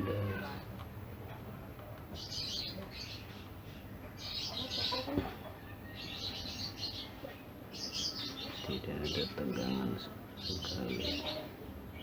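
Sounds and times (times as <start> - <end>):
birds chirping: 2.1 - 12.0.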